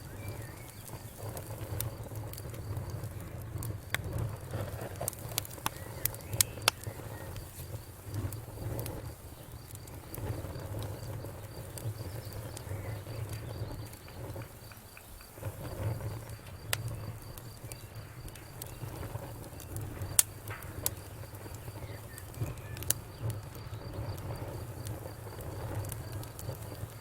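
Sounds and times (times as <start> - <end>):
low rumble of burning: 0.0 - 27.0
wood fire crackling and popping: 0.0 - 27.0.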